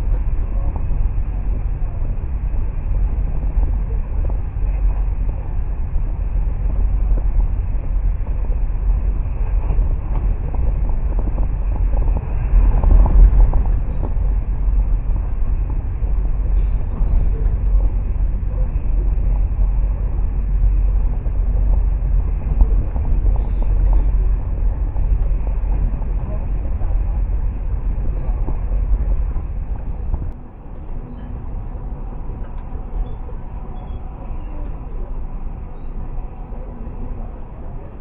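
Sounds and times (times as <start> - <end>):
train rumbling at speed: 0.0 - 38.0.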